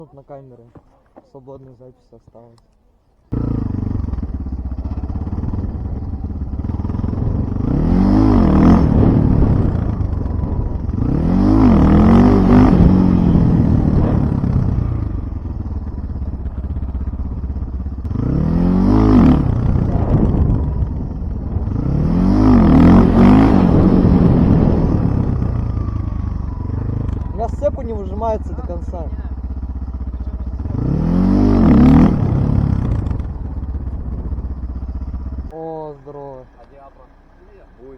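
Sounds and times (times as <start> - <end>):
motorcycle engine revving: 3.3 - 37.9.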